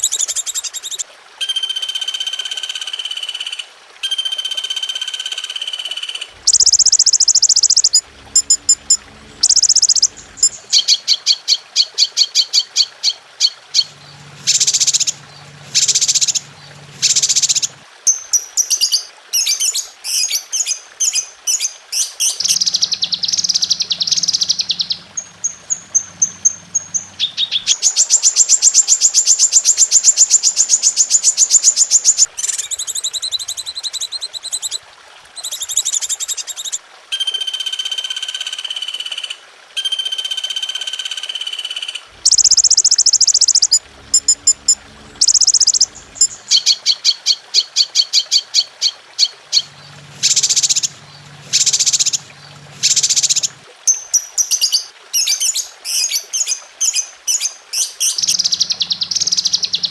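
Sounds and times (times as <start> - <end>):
recorded songbird calls: 0.0 - 34.8, 35.4 - 59.9.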